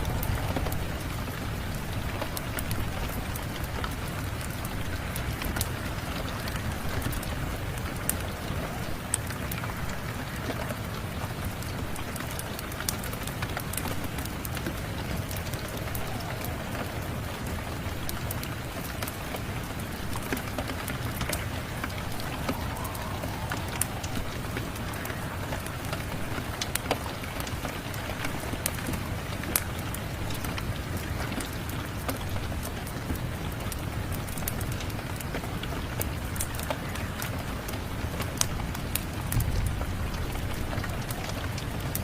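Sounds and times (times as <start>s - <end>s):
steady rain falling: 0.0s - 42.0s
wood fire crackling and popping: 0.0s - 42.0s.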